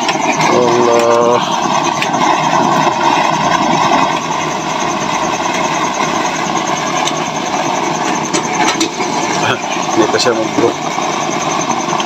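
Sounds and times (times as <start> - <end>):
oil burner stove roaring: 0.0 - 12.0.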